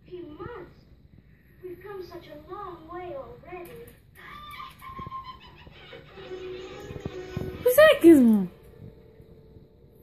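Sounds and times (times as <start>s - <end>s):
film soundtrack music from television: 0.0s - 10.0s.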